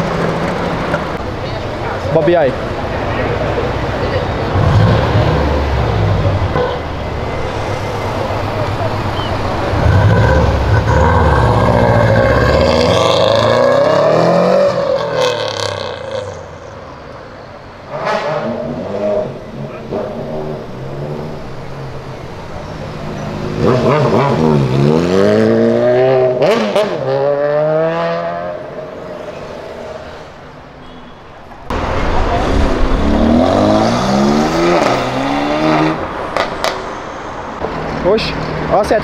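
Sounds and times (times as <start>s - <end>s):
car engine revving: 0.0s - 16.5s, 17.9s - 29.9s, 31.7s - 37.0s.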